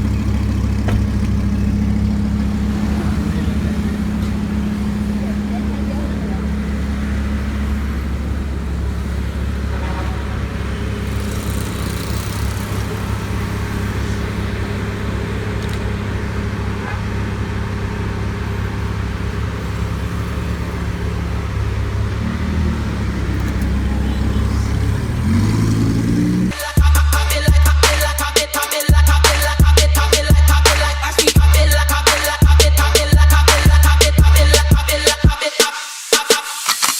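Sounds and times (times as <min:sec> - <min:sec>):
car engine idling and revving: 0:00.0 - 0:35.5.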